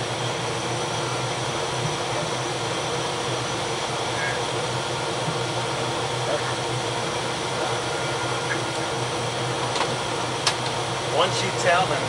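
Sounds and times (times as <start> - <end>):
engine-room machinery drone: 0.0 - 12.0.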